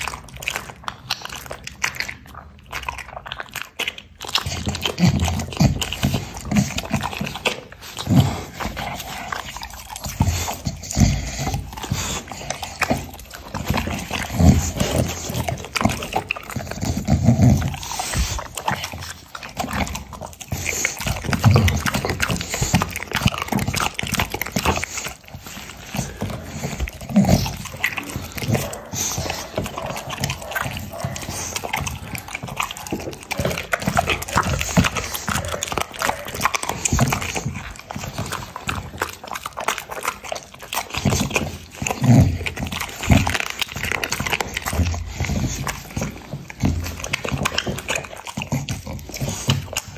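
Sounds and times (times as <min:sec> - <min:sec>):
dog chewing meat: 0:00.0 - 0:49.9.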